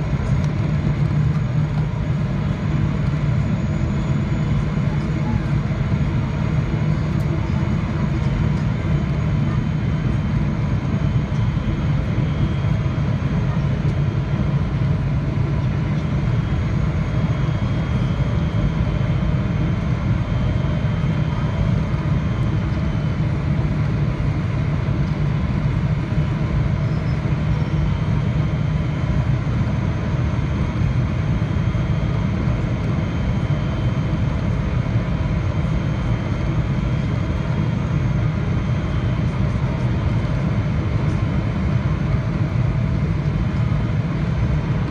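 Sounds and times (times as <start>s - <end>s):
jet engine rumble and rushing air: 0.0s - 44.9s.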